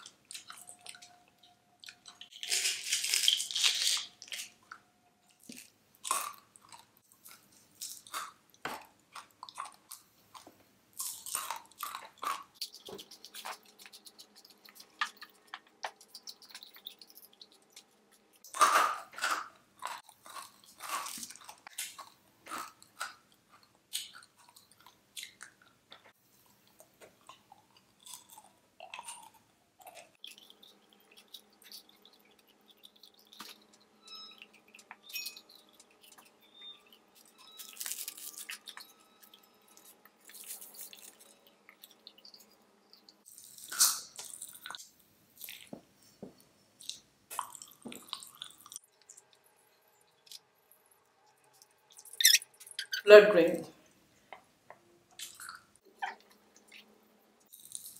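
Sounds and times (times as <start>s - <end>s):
person chewing and crunching sweets: 0.0s - 57.9s.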